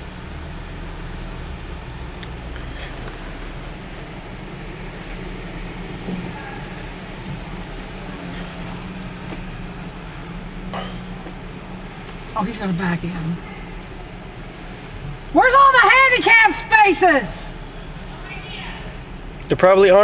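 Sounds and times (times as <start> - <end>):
road and cabin noise: 0.0 - 20.0
vehicle engine humming: 0.0 - 20.0.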